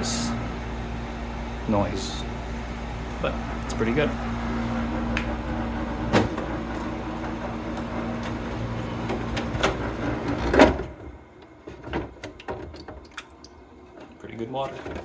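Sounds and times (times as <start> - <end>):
dehumidifier vibrating hum: 0.0 - 15.0.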